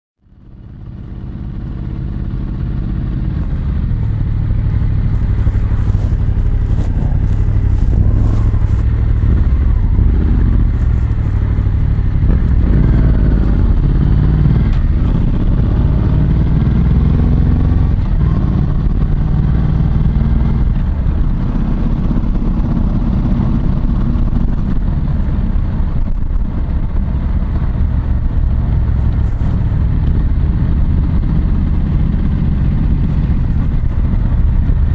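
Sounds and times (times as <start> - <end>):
motorcycle engine accelerating: 0.2 - 34.9.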